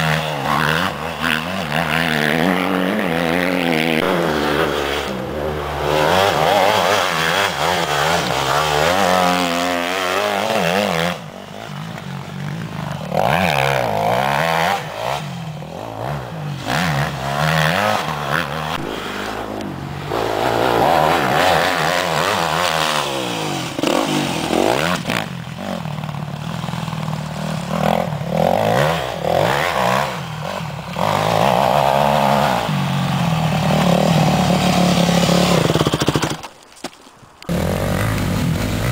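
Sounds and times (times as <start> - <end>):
motorcycle engines revving: 0.0 - 36.5, 37.5 - 38.9.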